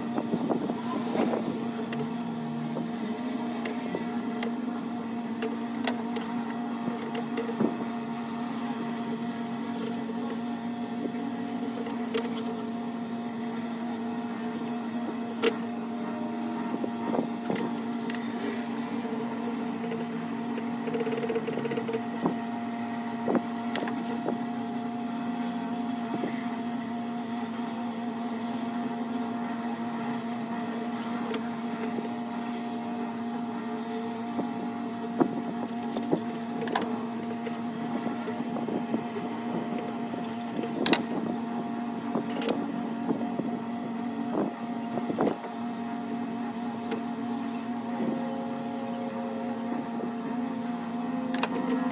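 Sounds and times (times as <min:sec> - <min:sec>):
steady machine hum: 0:00.0 - 0:51.9.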